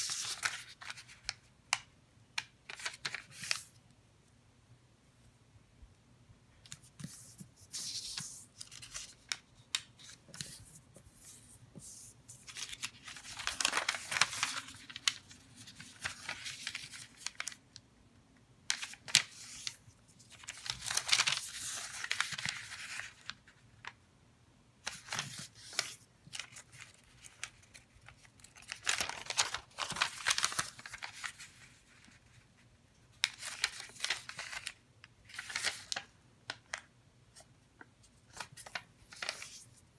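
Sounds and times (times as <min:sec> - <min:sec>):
paper rustling and creasing: 0:00.0 - 0:01.5, 0:02.6 - 0:03.8, 0:06.7 - 0:17.6, 0:18.7 - 0:24.0, 0:24.8 - 0:39.9.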